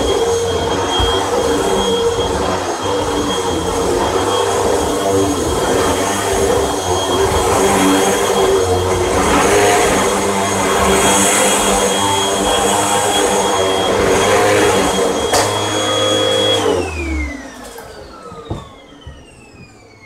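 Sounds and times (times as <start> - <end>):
vacuum cleaner whining: 0.0 - 20.0
vacuum motor spinning down: 0.0 - 20.0.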